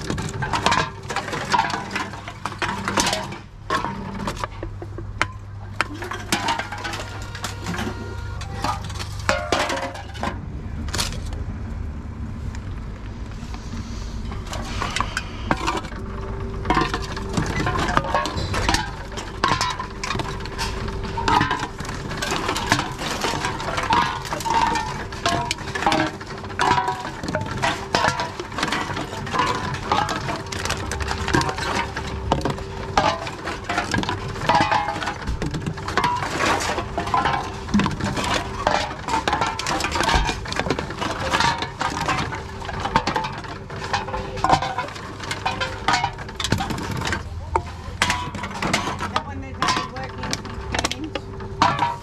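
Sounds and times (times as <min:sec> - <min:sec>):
cans and bottles clinking: 0:00.0 - 0:11.4, 0:14.3 - 0:52.0
machine humming: 0:00.0 - 0:12.3, 0:13.9 - 0:52.0.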